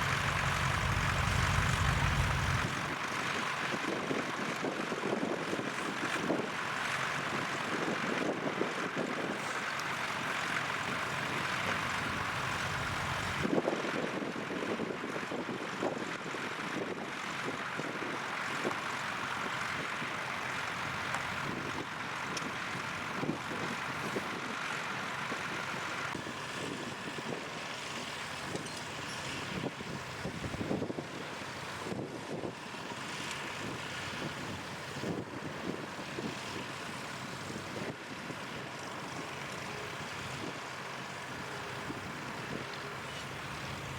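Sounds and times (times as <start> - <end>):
tractor engine running: 0.0 - 8.6, 9.2 - 13.5, 18.2 - 43.9.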